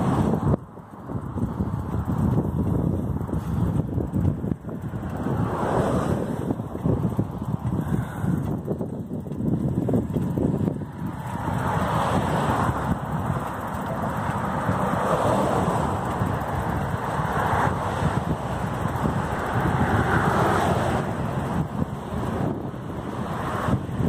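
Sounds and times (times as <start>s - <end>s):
tyre noise of passing cars: 0.0s - 24.0s
wind buffeting microphone: 0.0s - 24.0s.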